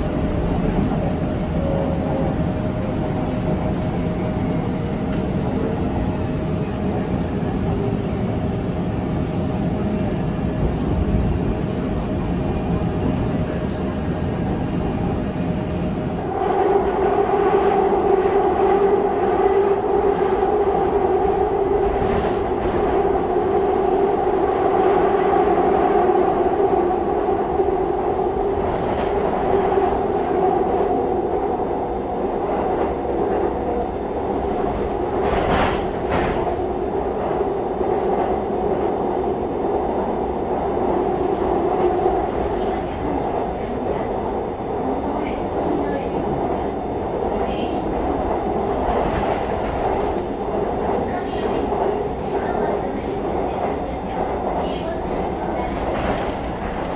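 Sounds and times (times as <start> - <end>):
train rumble: 0.0 - 56.9.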